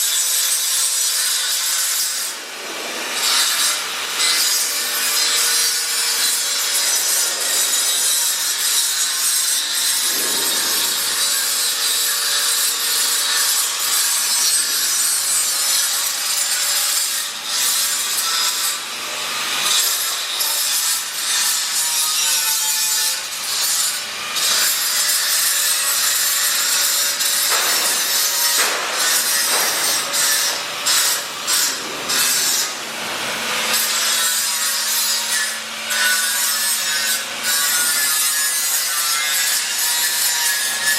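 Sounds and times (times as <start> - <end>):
tool rasping and scraping: 0.0 - 40.9.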